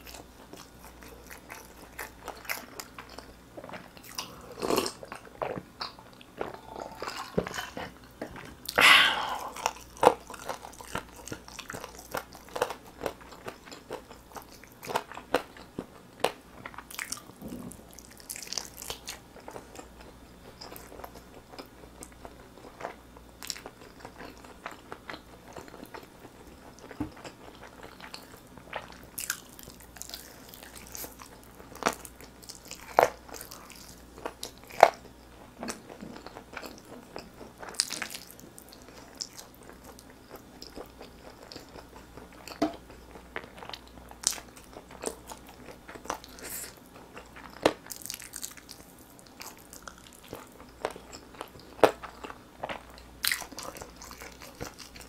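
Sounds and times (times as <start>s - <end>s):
biting and chewing chicken: 0.0s - 55.0s.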